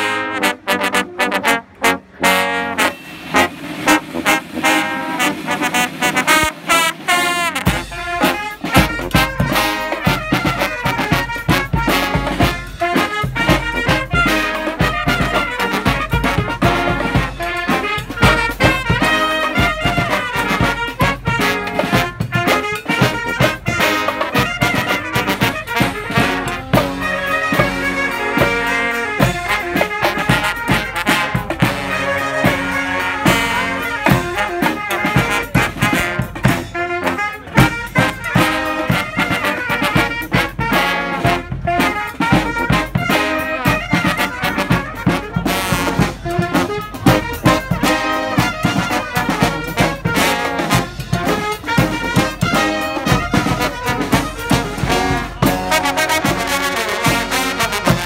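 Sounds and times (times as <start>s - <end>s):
brass band playing: 0.0s - 58.0s.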